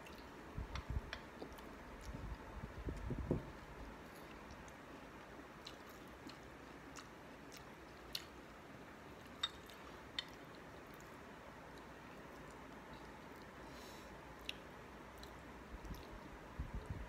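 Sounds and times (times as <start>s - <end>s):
chewing mango: 0.0s - 13.6s, 14.3s - 17.0s.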